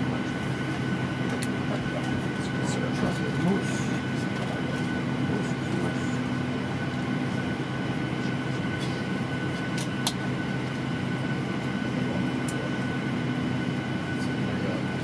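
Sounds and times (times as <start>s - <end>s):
aircraft cabin hum: 0.0s - 15.0s
steady whine: 0.0s - 15.0s.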